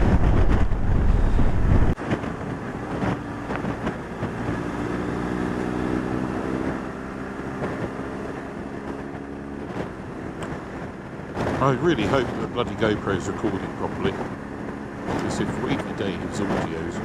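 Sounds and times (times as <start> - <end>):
wind noise on microphone: 0.0 - 5.5, 6.1 - 17.0
motorcycle engine cruising: 0.0 - 17.0.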